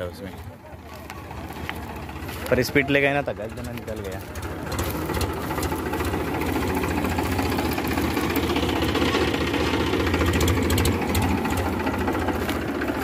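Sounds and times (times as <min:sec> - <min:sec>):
diesel tractor engine clattering: 0:00.0 - 0:13.0.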